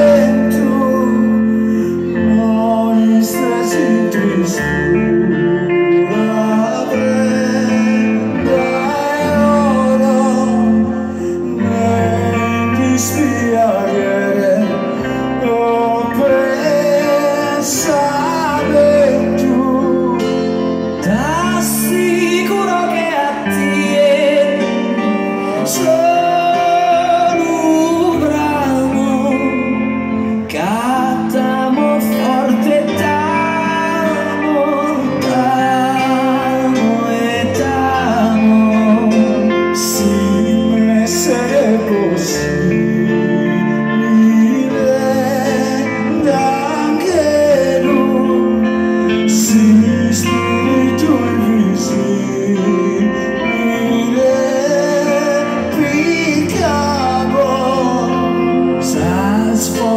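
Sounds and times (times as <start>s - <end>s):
live band playing: 0.0s - 59.9s
man singing: 0.0s - 59.9s.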